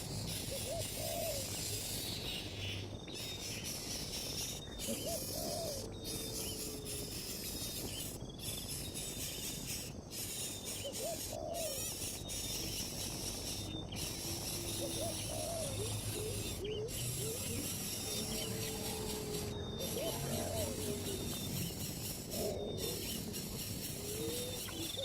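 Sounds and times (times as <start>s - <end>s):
insect buzz: 0.0s - 25.0s
low gliding bird calls: 0.2s - 25.0s.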